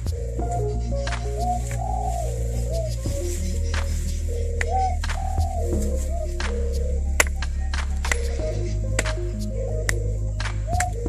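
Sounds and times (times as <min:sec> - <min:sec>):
steady bass notes: 0:00.0 - 0:11.0
wavering melody with vibrato: 0:00.0 - 0:11.0.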